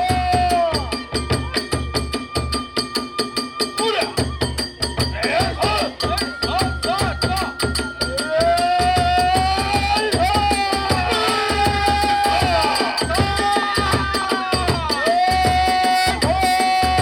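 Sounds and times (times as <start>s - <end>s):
fast even drumbeats: 0.0s - 17.0s.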